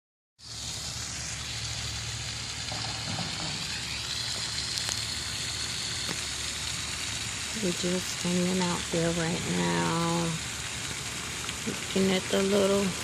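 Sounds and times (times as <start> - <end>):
water rushing: 0.4 - 13.0.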